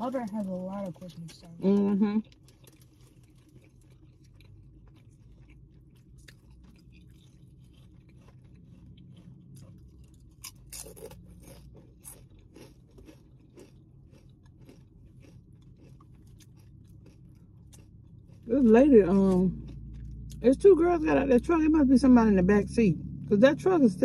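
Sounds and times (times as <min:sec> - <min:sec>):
chewing with crunches: 0:00.0 - 0:21.6
steady low hum: 0:00.0 - 0:24.0.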